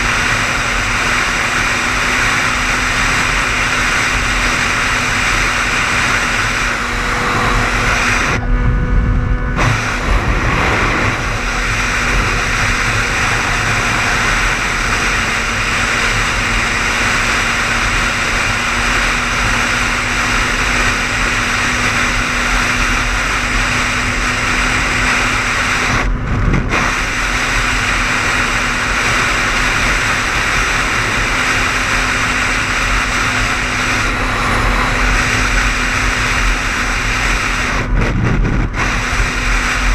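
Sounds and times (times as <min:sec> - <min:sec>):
tyre and road noise hiss: 0:00.0 - 0:08.4, 0:09.5 - 0:39.9
low engine hum: 0:00.0 - 0:39.9.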